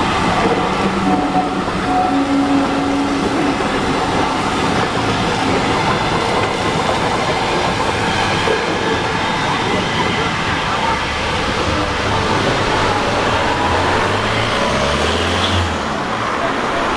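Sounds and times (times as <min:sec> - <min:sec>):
train rumbling and clattering: 0:00.0 - 0:16.9.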